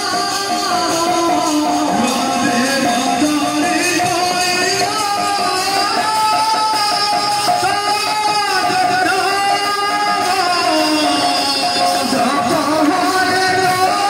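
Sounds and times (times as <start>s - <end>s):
devotional singing with instruments: 0.0s - 14.0s.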